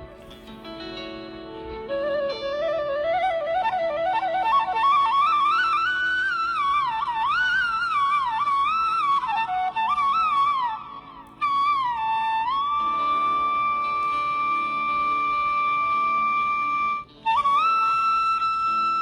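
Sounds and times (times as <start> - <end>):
flute-like melody: 0.0 - 19.0.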